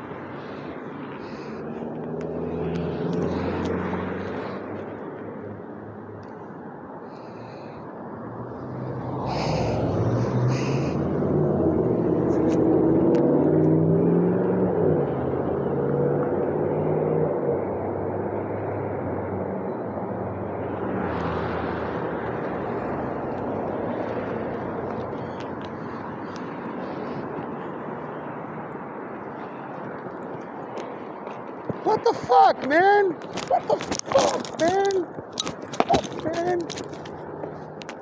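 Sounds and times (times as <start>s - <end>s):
vehicles passing: 0.0s - 38.0s.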